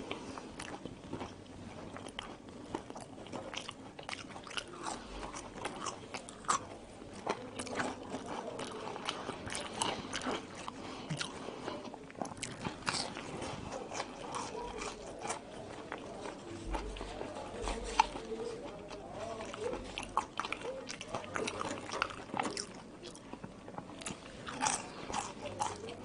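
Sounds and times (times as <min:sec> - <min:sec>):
chewing fries: 0:00.0 - 0:26.0.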